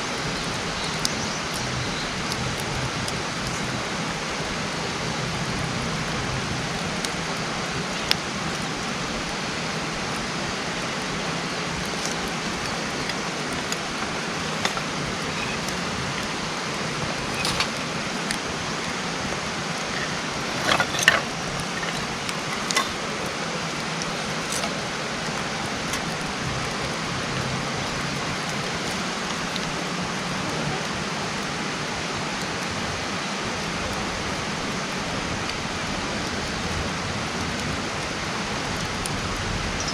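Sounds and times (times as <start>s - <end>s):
burning wood crackling and popping: 0.0s - 39.9s
campfire hissing: 0.0s - 39.9s.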